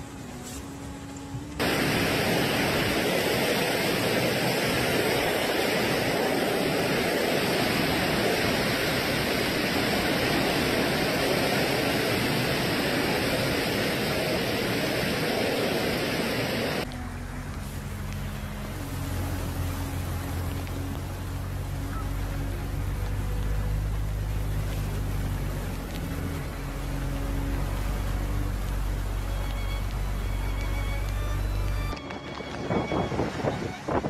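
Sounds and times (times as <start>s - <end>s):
storm wind: 0.0s - 16.9s, 18.4s - 34.0s
low hum: 0.0s - 32.4s
heavy rain: 0.0s - 34.0s.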